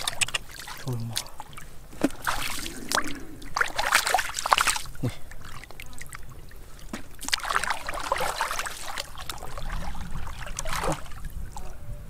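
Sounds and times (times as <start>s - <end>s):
hands splashing in muddy water: 0.0s - 6.2s, 6.9s - 11.3s
water dripping: 0.0s - 11.7s.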